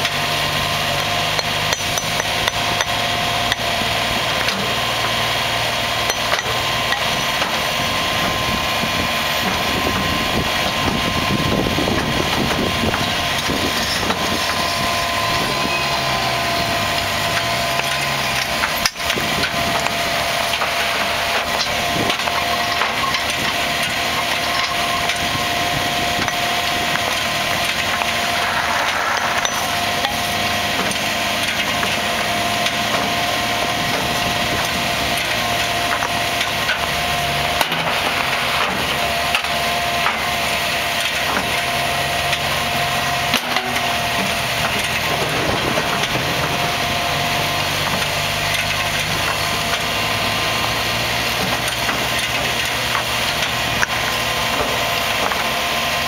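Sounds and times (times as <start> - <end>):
machine whining: 0.0 - 56.0.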